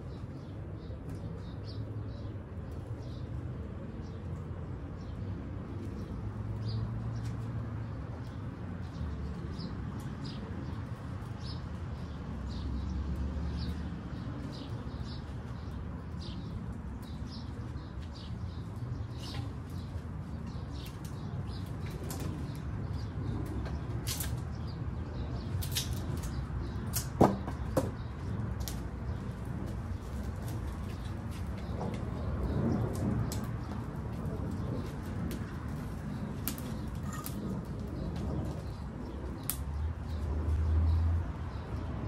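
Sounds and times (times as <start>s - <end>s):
birds chirping: 0.0s - 42.0s
low outdoor background hum: 0.0s - 42.0s.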